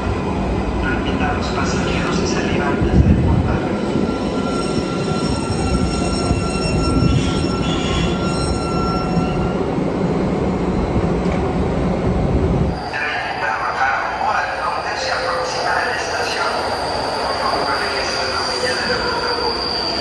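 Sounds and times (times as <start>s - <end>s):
train rumbling to a stop: 0.0s - 20.0s.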